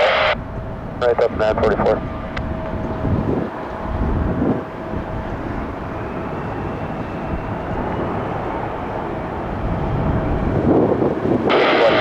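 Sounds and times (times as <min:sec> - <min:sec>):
high jet engine whine: 0:00.0 - 0:12.0
jet engines rushing: 0:00.0 - 0:12.0.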